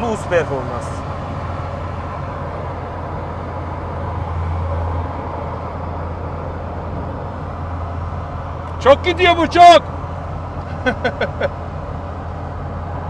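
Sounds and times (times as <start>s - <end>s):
car engine cruising: 0.0s - 13.0s
tyre and road noise: 0.0s - 13.0s.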